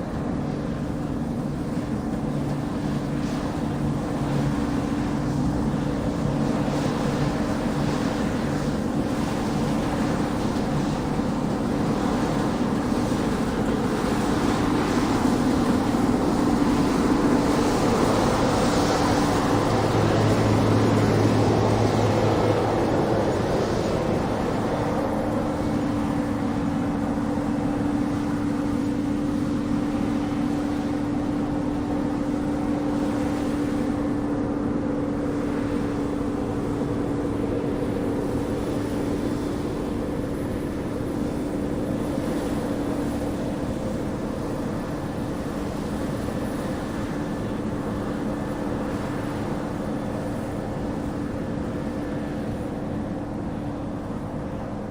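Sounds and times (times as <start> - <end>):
drone propellers humming: 0.0 - 54.9.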